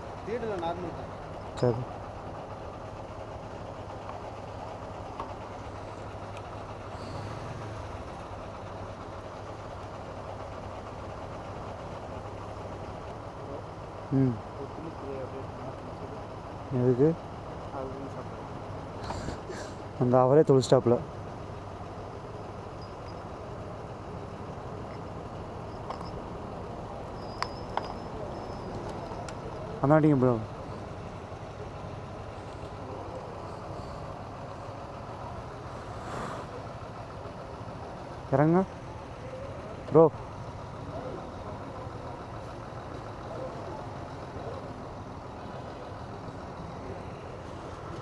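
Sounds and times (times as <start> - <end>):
motor vehicle hum: 0.0 - 48.0.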